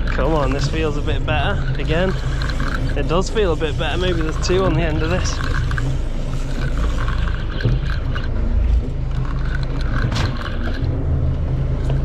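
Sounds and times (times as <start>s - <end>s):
fishing reel gears whirring: 0.0s - 12.0s
low rumble: 0.0s - 12.0s.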